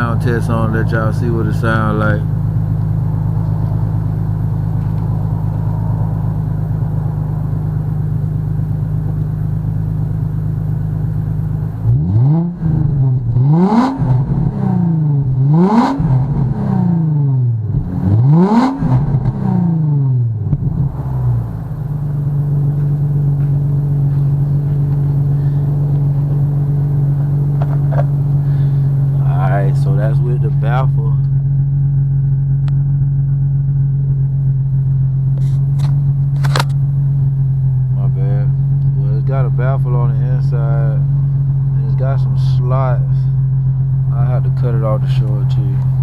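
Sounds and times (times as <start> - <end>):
car engine idling: 0.0 - 46.0
car engine revving: 0.0 - 46.0.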